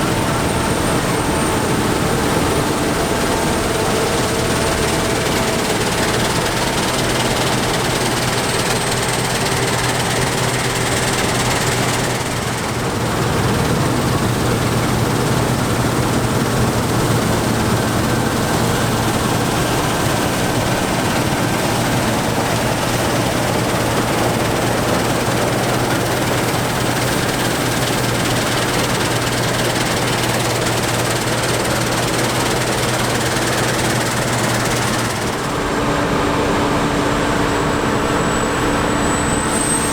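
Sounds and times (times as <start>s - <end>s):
heavy farm machinery engines: 0.0s - 39.9s.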